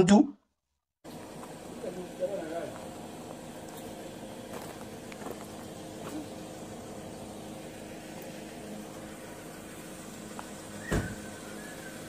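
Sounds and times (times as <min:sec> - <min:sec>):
low rumble and hiss: 0:01.1 - 0:12.0.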